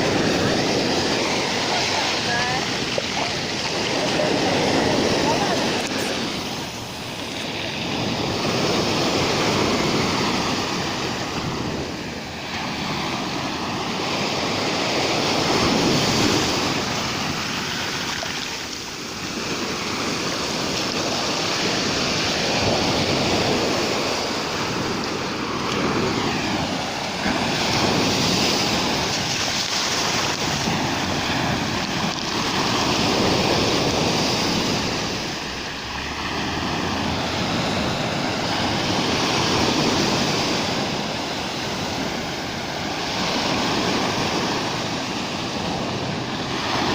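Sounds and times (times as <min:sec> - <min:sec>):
sea surf breaking: 0:00.0 - 0:46.9.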